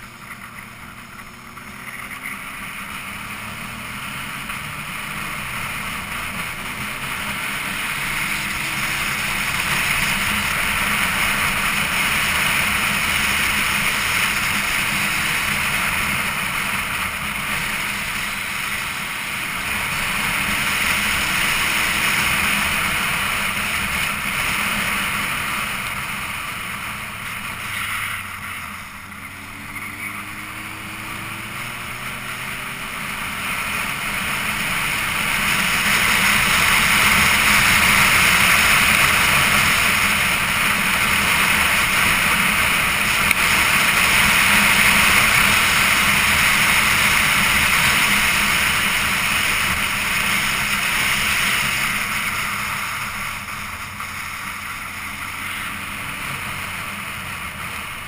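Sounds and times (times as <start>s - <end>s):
motorcycle engine hum: 0.0s - 58.0s.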